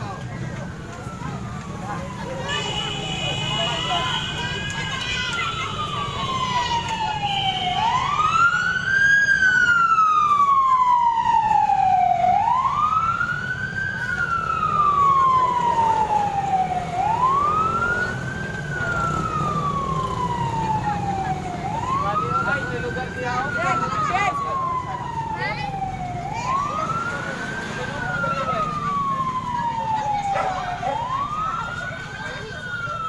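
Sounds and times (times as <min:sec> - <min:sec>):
emergency vehicle siren wailing: 0:00.0 - 0:33.0.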